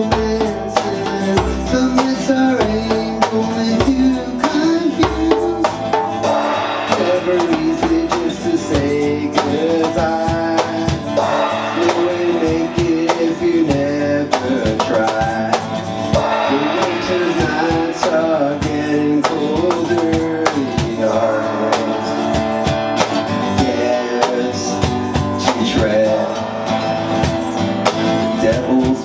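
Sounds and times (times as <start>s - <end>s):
man singing: 0.0s - 26.9s, 28.1s - 29.0s
acoustic guitar strumming: 0.0s - 29.0s
hand drum beats: 0.0s - 29.0s.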